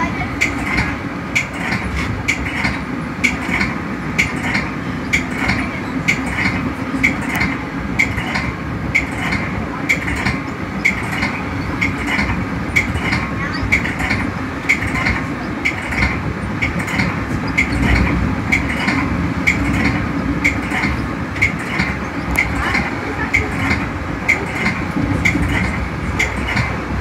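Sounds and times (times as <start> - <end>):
train wheels rumbling on rail: 0.0 - 27.0
regular clicking of wheels: 0.4 - 26.8.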